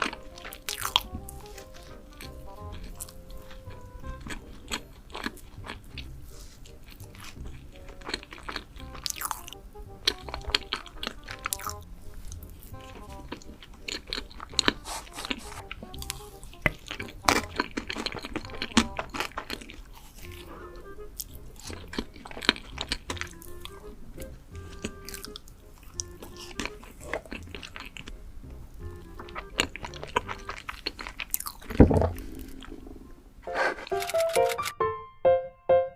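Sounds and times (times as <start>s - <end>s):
person chewing crunchy food: 0.0s - 34.7s
background music: 0.0s - 35.9s.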